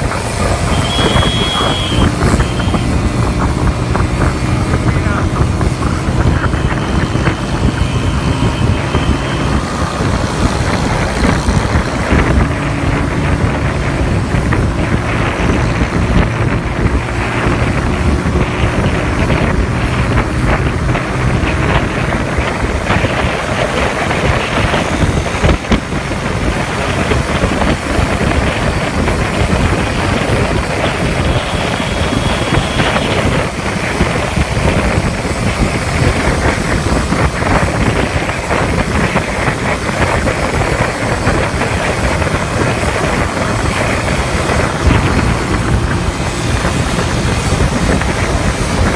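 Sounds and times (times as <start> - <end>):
small engine running: 0.0 - 48.9
wind noise on microphone: 0.0 - 48.9.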